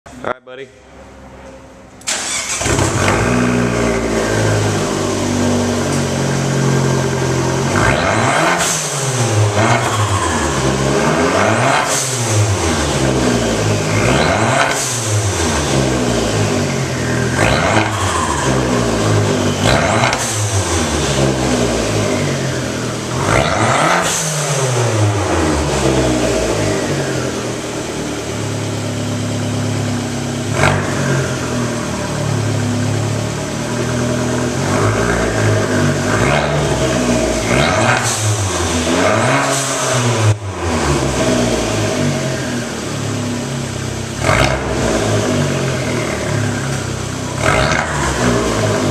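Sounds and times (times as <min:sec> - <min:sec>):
car engine idling and revving: 0:00.8 - 0:48.9.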